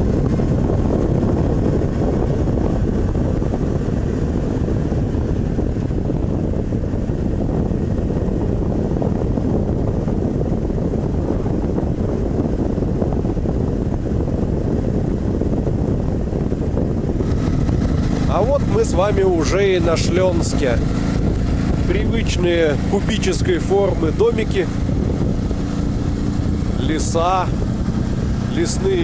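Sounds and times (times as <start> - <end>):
motorcycle engine droning: 0.0 - 29.0
wind rushing over microphone: 0.0 - 29.0.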